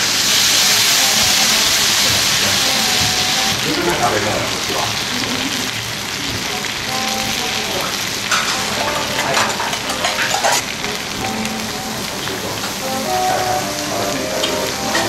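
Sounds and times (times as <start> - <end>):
crackling spatters: 0.0 - 15.0
food sizzling on a griddle: 0.0 - 15.0.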